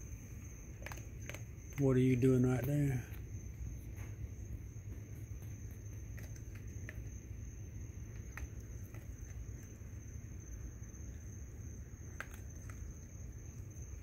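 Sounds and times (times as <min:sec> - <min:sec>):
insects trilling: 0:00.0 - 0:14.0
low steady rumble: 0:00.0 - 0:14.0.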